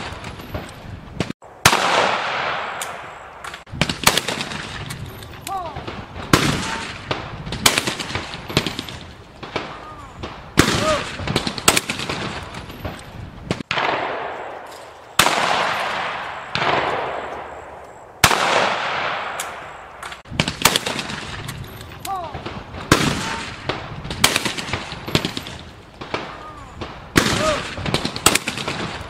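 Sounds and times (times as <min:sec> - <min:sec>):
shotgun shots echoing: 0:00.0 - 0:05.0, 0:05.6 - 0:21.6, 0:22.2 - 0:29.0.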